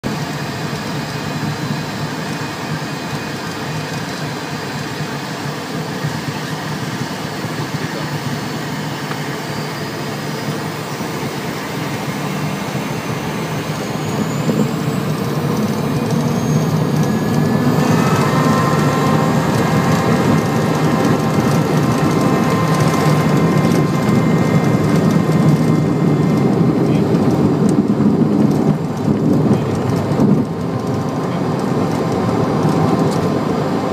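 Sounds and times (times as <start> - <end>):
jet rolling on gravel runway: 0.0 - 33.9
jet engines spooling up: 0.1 - 33.9.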